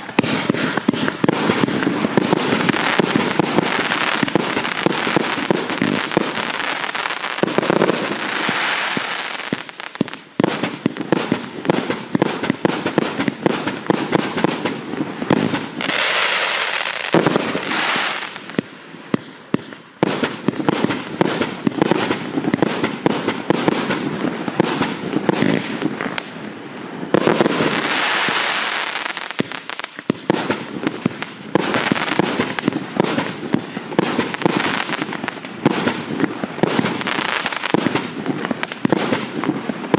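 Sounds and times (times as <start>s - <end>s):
fireworks aerial pops: 0.0s - 39.9s.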